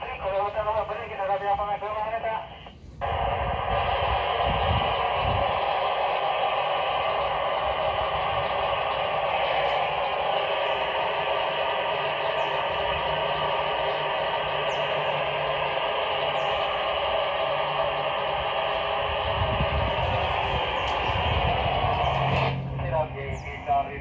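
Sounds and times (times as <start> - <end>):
radio receiver static hiss: 0.0 - 24.0.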